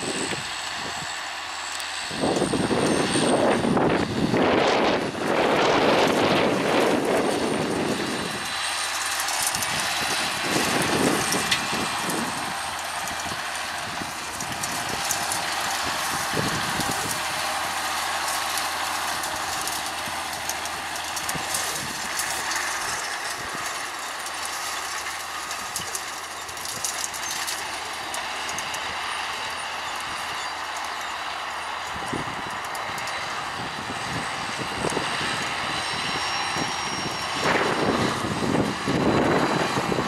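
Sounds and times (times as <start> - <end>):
tractor diesel engine under load: 0.0 - 40.0.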